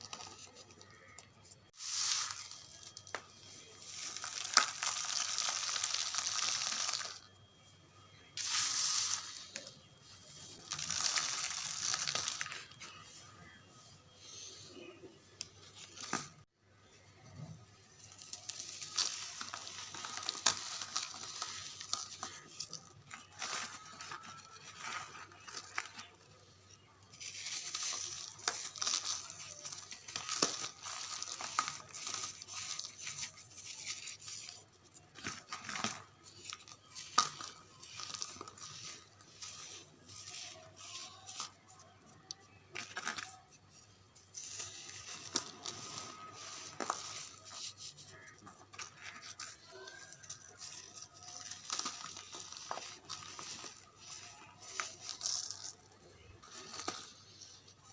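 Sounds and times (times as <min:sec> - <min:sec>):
charcoal crumbling crunchy crackling: 0:00.0 - 0:13.6, 0:17.7 - 0:57.9.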